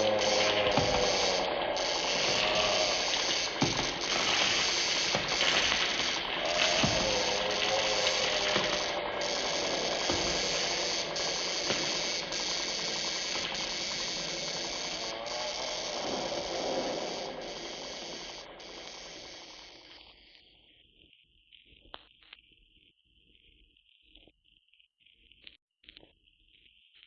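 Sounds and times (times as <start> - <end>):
electrical crackling and buzzing: 0.0 - 27.0.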